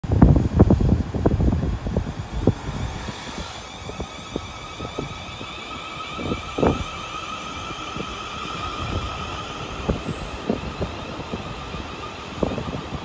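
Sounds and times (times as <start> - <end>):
electric train traction whine: 0.1 - 13.0.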